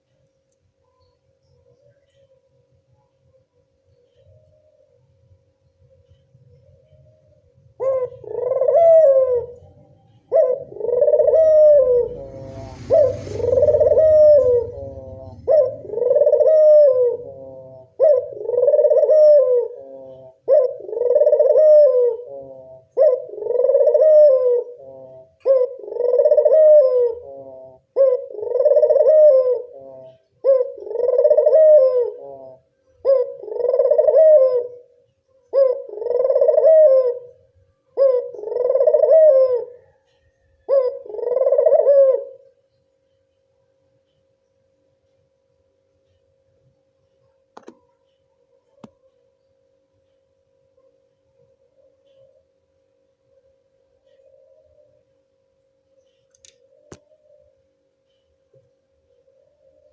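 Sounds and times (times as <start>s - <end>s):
dove cooing: 1.6s - 42.7s, 50.8s - 52.7s, 53.3s - 55.2s, 56.1s - 59.9s.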